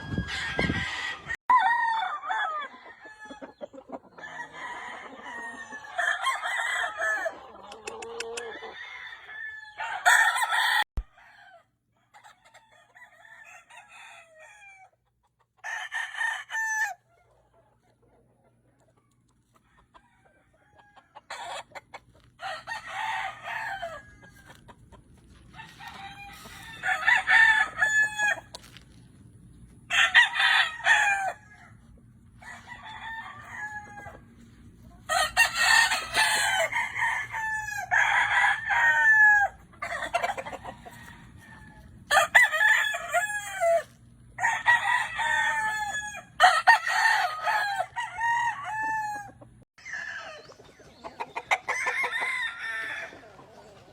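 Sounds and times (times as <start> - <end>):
roosters crowing: 0.0 - 15.0, 15.6 - 17.1, 19.5 - 28.9, 29.8 - 53.9.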